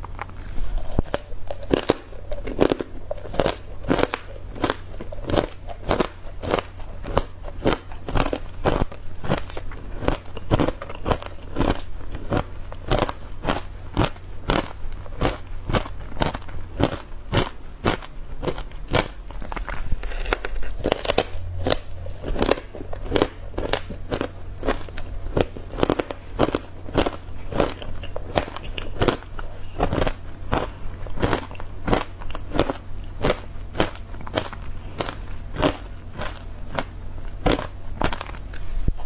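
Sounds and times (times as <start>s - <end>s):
ice chunks crunching when chewed: 0.0s - 39.0s.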